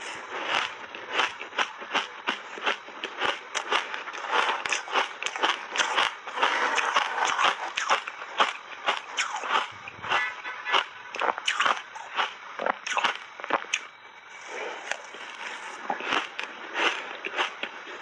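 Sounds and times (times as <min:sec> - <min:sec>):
person chewing crunchy ice: 0:00.0 - 0:18.0.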